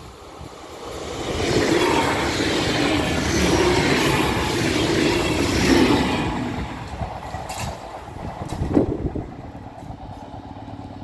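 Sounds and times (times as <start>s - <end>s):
train passing wheel and rail noise: 0.0s - 11.0s.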